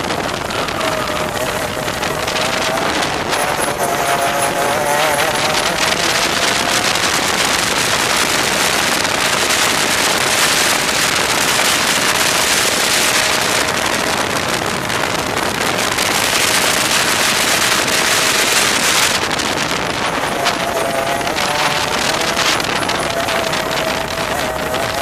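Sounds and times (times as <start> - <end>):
kart engine harsh crackle: 0.0 - 25.0.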